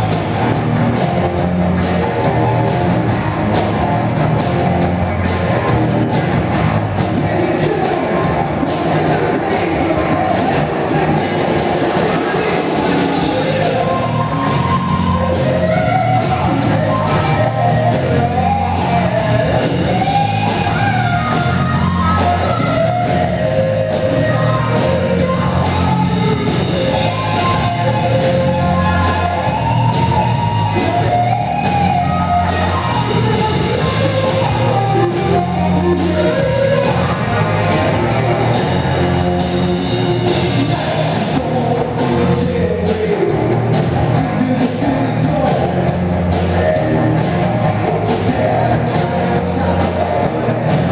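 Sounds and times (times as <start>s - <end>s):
bass: 0.0s - 50.9s
distorted electric guitars: 0.0s - 50.9s
drum kit: 0.0s - 50.9s.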